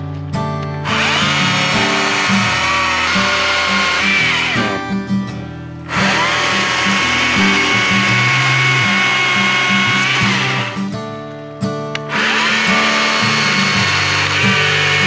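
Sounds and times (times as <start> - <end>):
battery chainsaw whining: 0.8 - 5.0, 5.9 - 10.9, 12.0 - 15.0.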